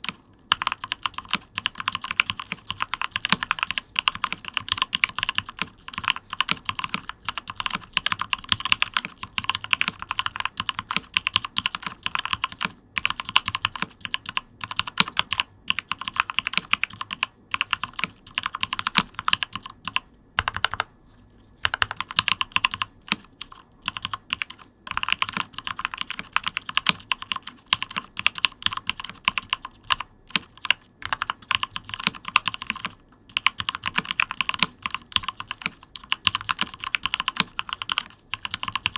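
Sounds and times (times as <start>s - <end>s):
typing on mechanical keyboard: 0.0s - 20.9s, 21.6s - 38.9s.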